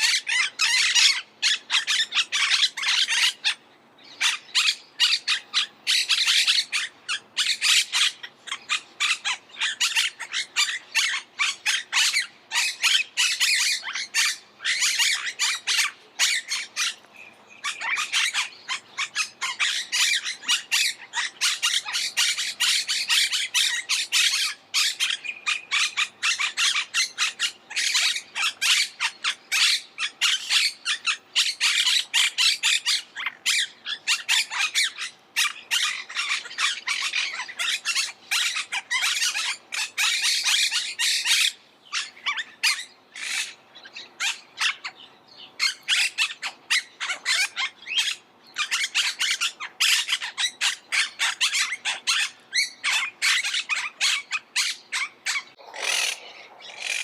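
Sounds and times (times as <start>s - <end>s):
parakeets squawking: 0.0s - 45.0s, 45.6s - 57.0s.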